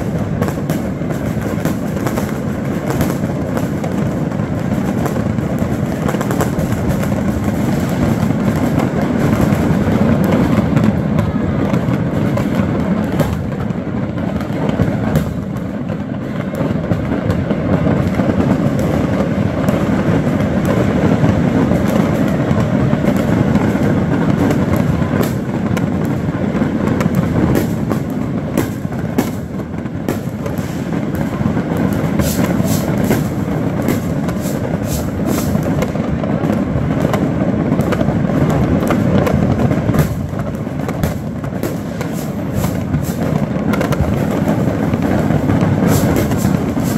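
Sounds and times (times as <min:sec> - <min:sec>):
fireworks rumble and crackle: 0:00.0 - 0:46.9
sharp firework pops: 0:00.0 - 0:46.9.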